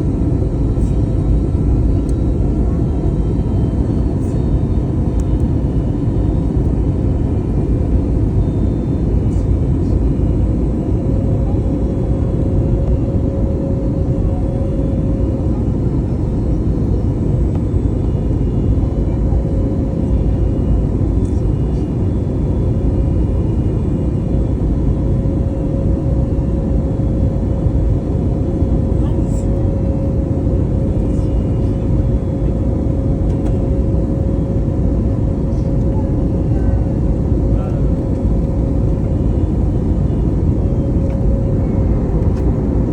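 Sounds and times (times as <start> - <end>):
aircraft engines rumbling in flight: 0.0 - 42.9
steady hum: 0.0 - 42.9.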